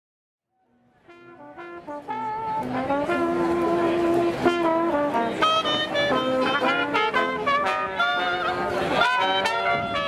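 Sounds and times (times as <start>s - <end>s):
dixieland street band playing: 0.7s - 10.0s.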